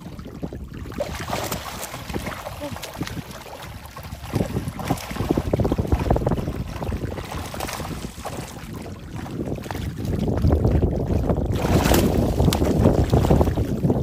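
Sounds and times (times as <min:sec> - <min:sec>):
water splashing through net: 0:00.0 - 0:14.0
fish thrashing: 0:00.7 - 0:13.9.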